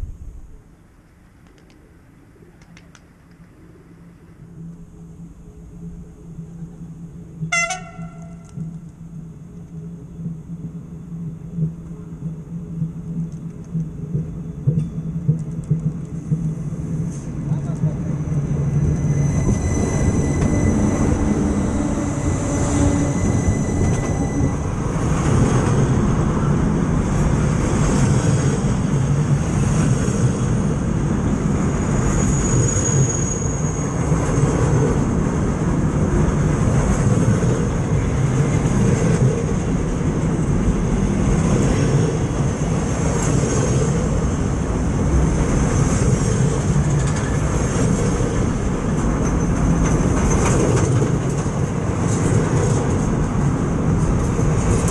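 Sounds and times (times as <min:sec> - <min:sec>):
train wheels rumbling on rails: 0:04.6 - 0:54.9.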